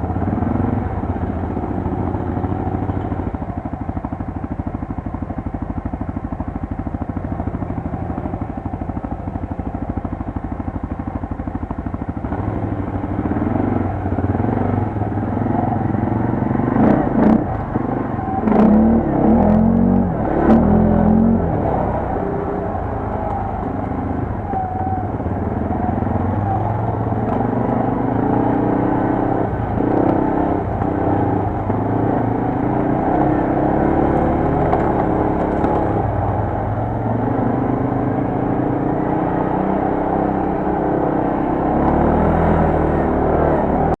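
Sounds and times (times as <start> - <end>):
quad bike engine running: 0.0 - 44.0.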